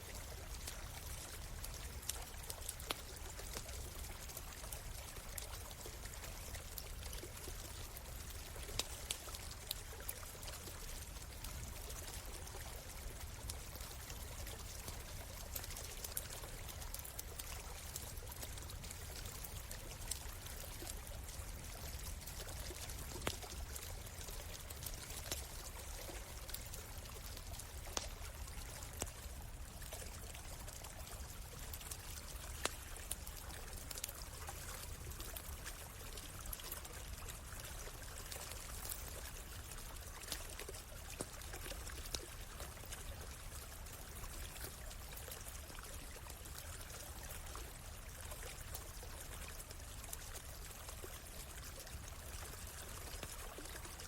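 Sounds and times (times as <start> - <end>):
stream running: 0.0 - 54.0
campfire pops and crackles: 0.1 - 45.5.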